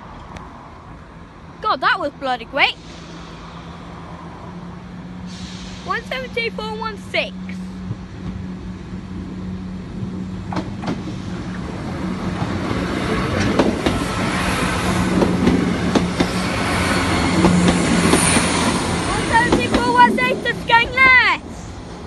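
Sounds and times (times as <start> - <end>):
diesel train engine drone: 0.0 - 22.0
train wheels clicking on rail joints: 2.8 - 22.0.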